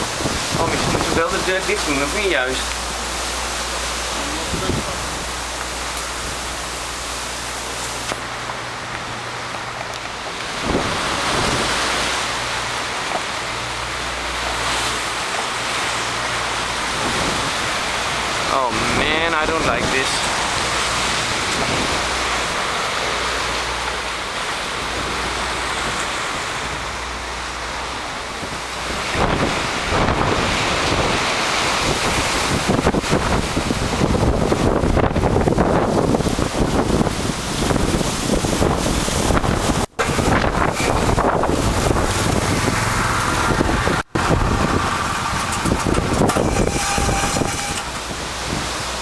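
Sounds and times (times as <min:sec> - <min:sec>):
strong wind rushing through trees: 0:00.0 - 0:49.0
wind buffeting microphone: 0:00.0 - 0:49.0.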